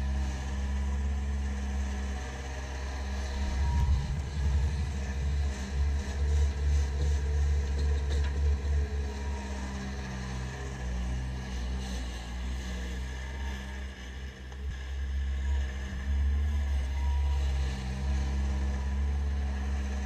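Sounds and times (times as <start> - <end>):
loader diesel engine rumbling: 0.0 - 20.0.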